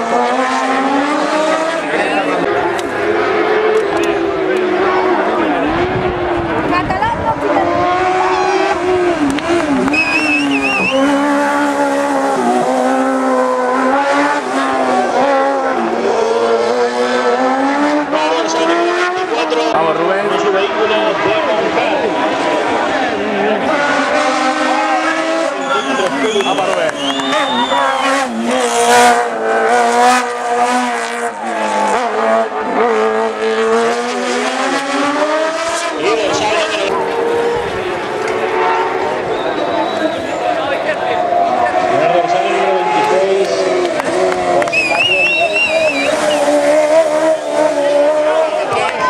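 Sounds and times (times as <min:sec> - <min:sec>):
race car engine at high revs: 0:00.0 - 0:49.0.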